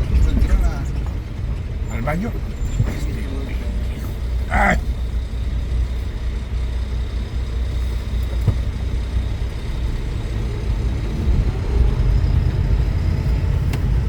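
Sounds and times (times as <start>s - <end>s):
truck engine low rumble: 0.0s - 14.0s.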